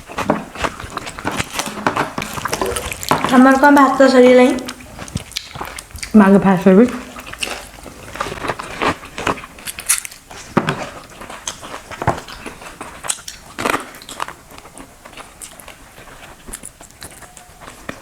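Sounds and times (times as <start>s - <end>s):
person chewing and crunching: 0.0s - 18.0s.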